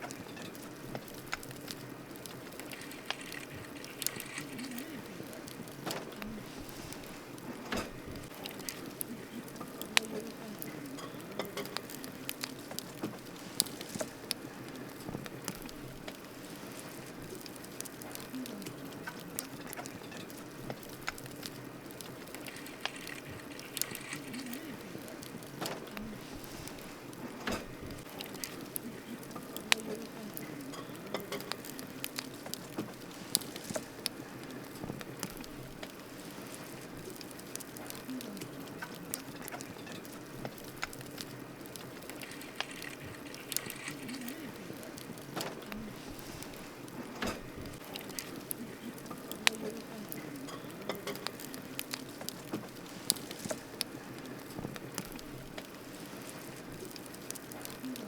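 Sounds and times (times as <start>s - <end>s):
flames rushing: 0.0s - 58.0s
wood crackling and popping: 0.0s - 58.0s.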